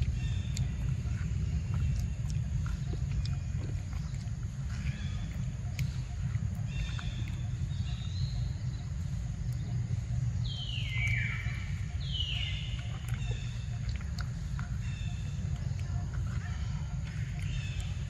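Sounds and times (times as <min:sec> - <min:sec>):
birds whistling: 0:00.0 - 0:18.0
steady low rumble: 0:00.0 - 0:18.0.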